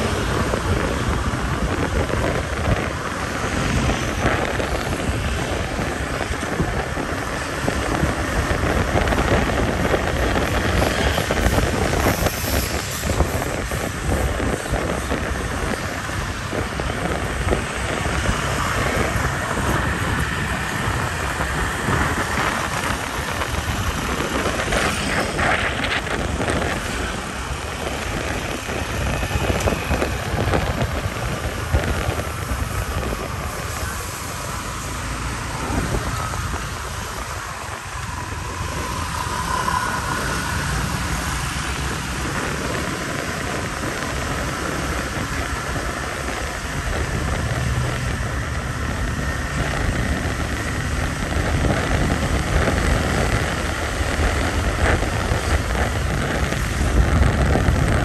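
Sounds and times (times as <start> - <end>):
motorbike engine hum: 0.0 - 58.0
passing street traffic: 0.0 - 58.0
wind buffeting microphone: 0.0 - 58.0.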